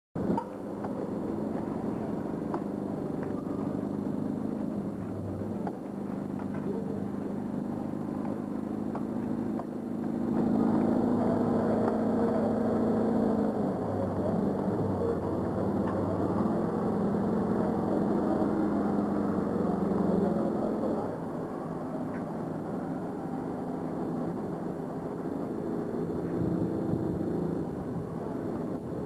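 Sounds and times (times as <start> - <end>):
vehicle engine humming: 0.2 - 29.0.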